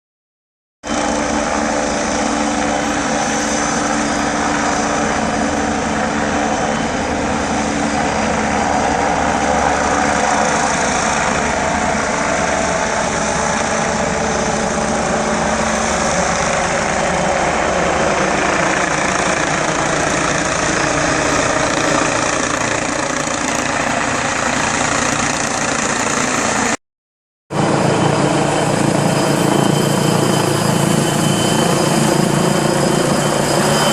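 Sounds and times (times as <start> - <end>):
helicopter rotor and turbine: 0.8 - 26.8, 27.5 - 33.9.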